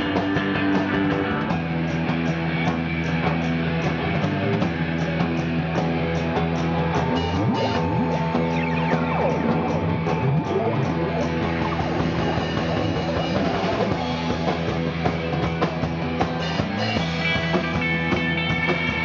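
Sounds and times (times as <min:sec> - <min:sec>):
drums: 0:00.0 - 0:19.0
electric guitar: 0:00.0 - 0:19.0.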